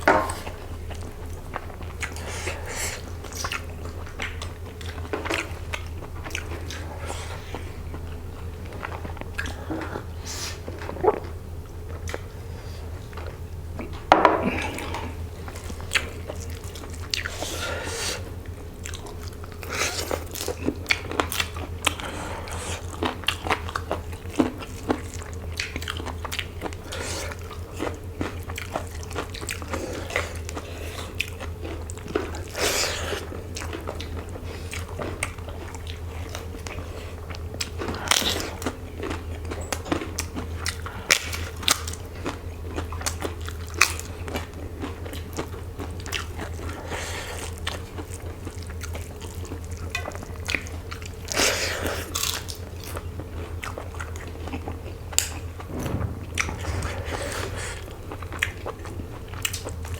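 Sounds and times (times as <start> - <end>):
chewing crisp food: 0.0 - 55.7, 57.4 - 59.9
low steady hum: 0.0 - 59.9.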